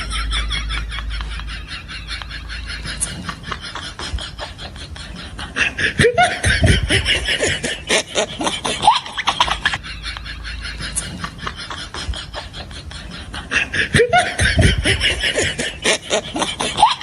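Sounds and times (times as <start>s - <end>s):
people laughing: 0.0s - 17.0s.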